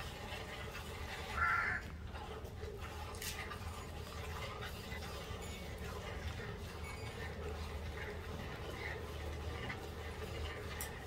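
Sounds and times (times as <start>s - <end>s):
milk squirting into a bucket: 0.0s - 11.0s.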